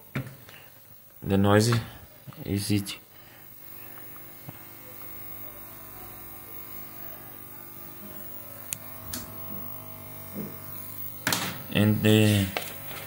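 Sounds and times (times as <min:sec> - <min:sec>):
buzzing hum from tv speaker: 0:00.0 - 0:13.0.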